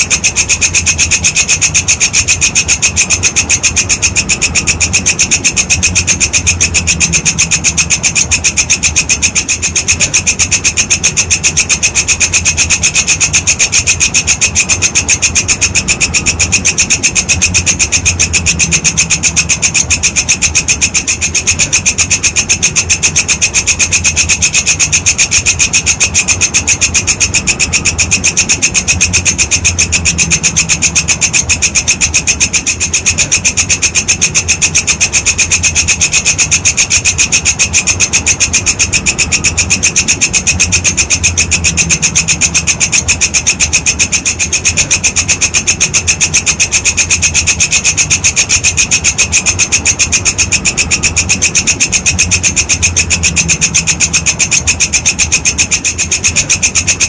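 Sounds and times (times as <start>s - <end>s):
grasshopper stridulating: 0.0s - 57.0s.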